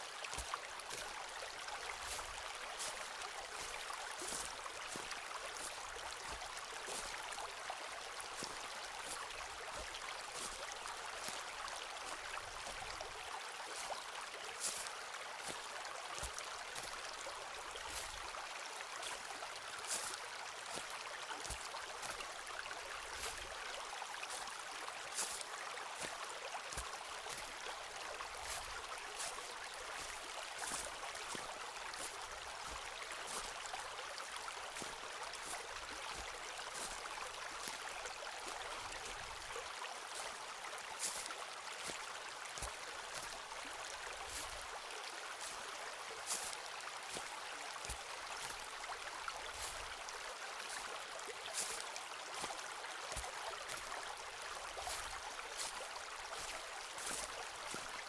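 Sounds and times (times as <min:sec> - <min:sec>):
stream rushing: 0:00.0 - 0:58.0
footsteps crunching on forest path: 0:00.1 - 0:58.0.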